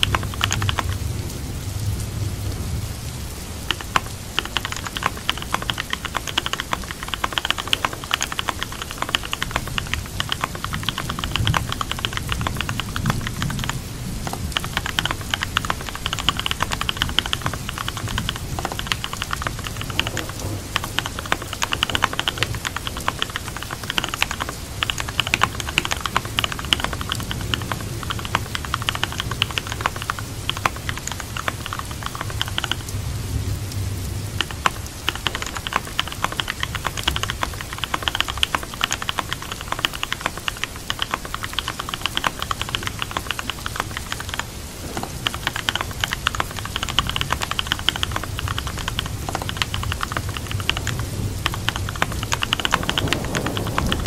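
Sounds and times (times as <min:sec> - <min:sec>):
computer keyboard typing: 0:00.0 - 0:01.1, 0:03.3 - 0:33.0, 0:34.2 - 0:54.0
steady rain: 0:00.0 - 0:54.0.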